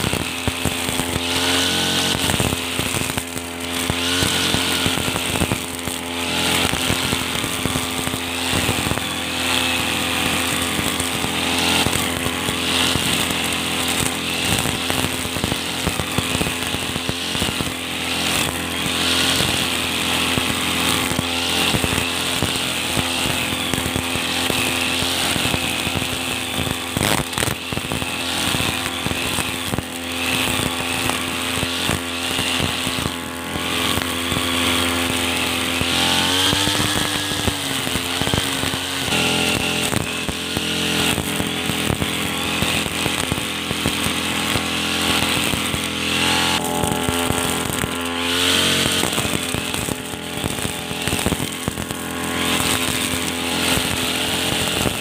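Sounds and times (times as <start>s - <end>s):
brush cutter cutting grass: 0.0s - 55.0s.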